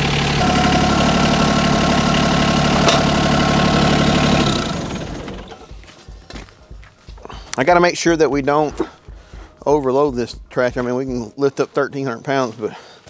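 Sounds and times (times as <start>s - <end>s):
tractor engine idling: 0.0s - 10.8s.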